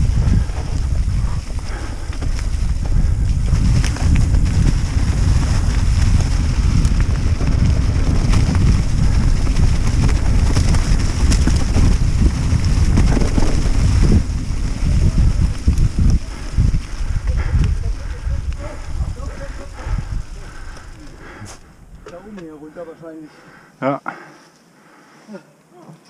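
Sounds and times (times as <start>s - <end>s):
wind buffeting microphone: 0.0s - 22.6s.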